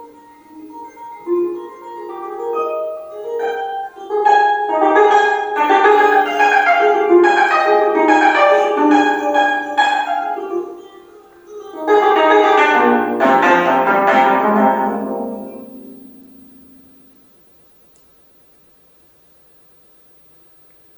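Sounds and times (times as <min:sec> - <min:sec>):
plucked zither notes: 0:00.0 - 0:17.1.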